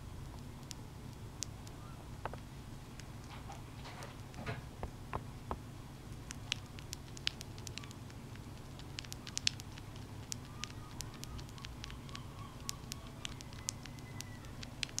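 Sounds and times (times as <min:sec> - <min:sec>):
low steady hum: 0:00.0 - 0:15.0
hamster nibbling: 0:00.1 - 0:15.0.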